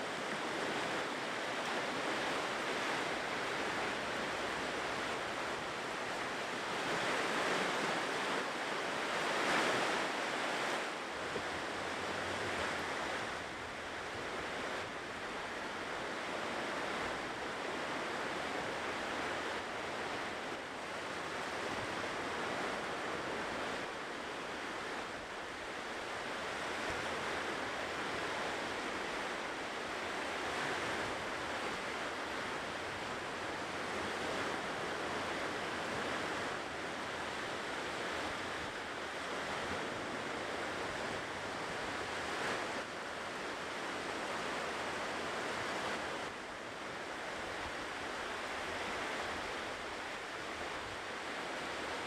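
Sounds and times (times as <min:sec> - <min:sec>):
ocean surf washing onto shore: 0:00.0 - 0:52.0.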